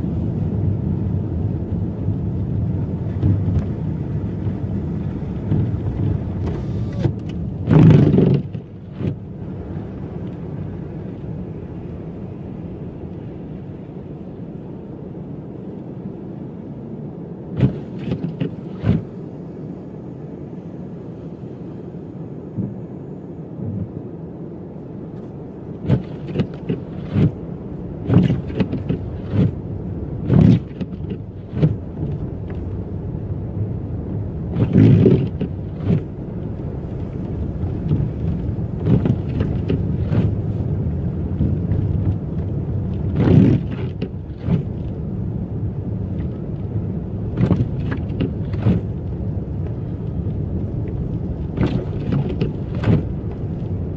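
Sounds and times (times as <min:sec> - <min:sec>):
car engine and tyres rumbling: 0:00.0 - 0:53.9.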